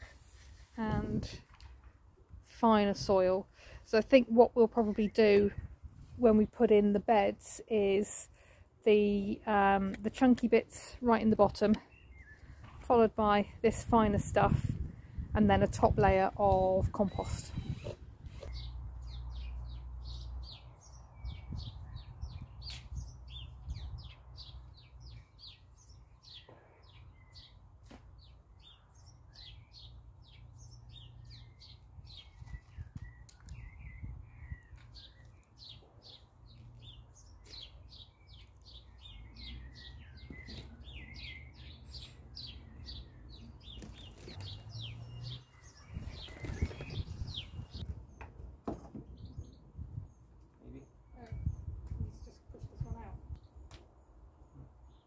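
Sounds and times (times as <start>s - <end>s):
birds chirping: 6.4s - 55.0s.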